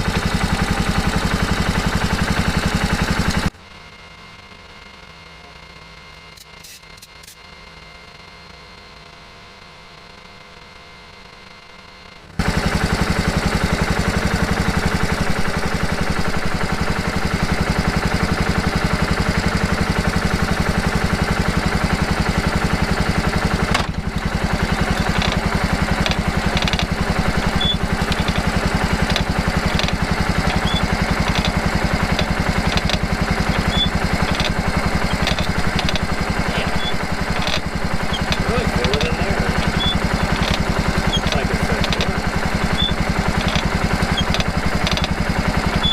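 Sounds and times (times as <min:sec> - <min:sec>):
atv engine running: 0:00.0 - 0:04.6, 0:10.7 - 0:45.9.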